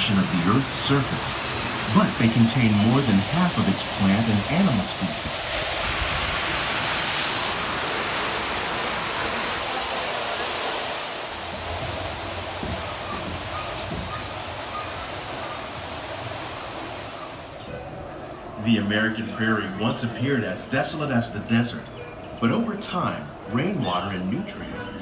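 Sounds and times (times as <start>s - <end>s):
rushing falling water: 0.0s - 21.6s.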